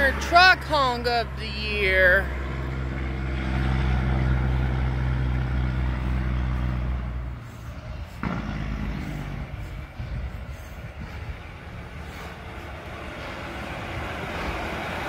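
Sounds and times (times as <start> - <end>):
highway truck road noise: 0.0 - 15.0
truck diesel engine drone: 0.0 - 15.0.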